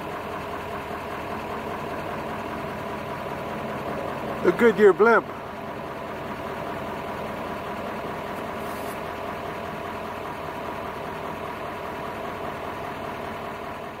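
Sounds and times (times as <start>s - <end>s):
engine droning steadily: 0.0s - 14.0s.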